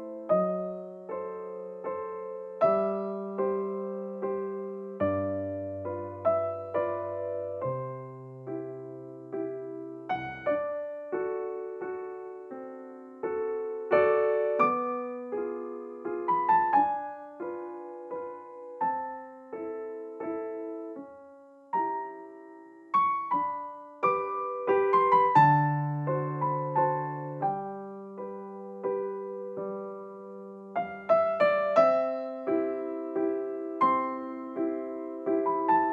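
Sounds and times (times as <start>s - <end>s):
electric piano melody: 0.0s - 35.9s.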